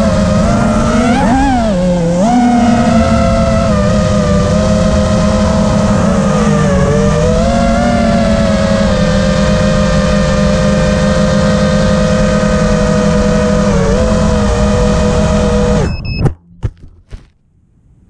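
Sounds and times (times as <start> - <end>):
drone motors whining: 0.0 - 16.5.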